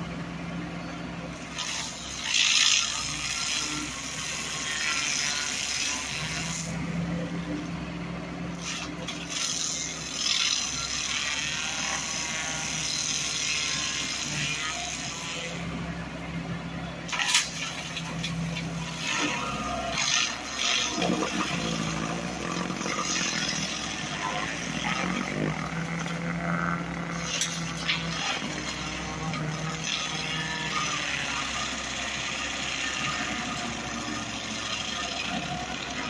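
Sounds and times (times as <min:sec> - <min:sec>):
loader engine hum: 0:00.0 - 0:36.0
stump grinder chewing wood: 0:00.0 - 0:36.0.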